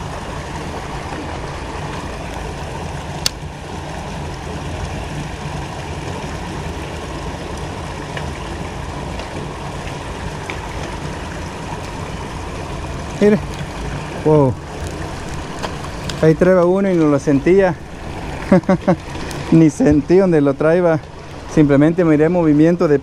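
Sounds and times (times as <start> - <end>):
water rushing through culvert: 0.0 - 23.0.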